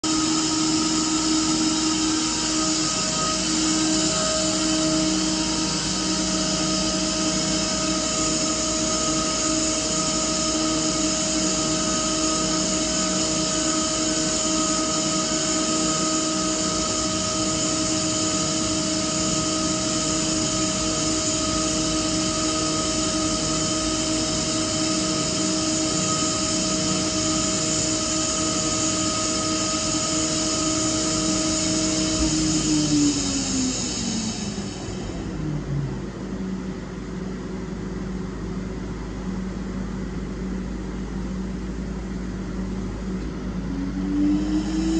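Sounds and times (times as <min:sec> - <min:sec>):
air compressor running: 0:00.0 - 0:44.9.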